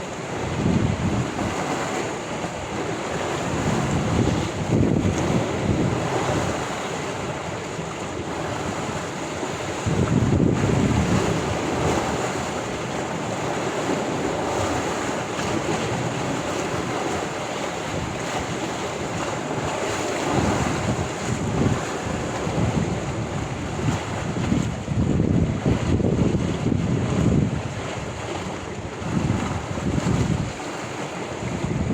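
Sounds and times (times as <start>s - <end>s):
sea waves washing onto shore: 0.0s - 31.9s
wind buffeting microphone: 0.0s - 31.9s.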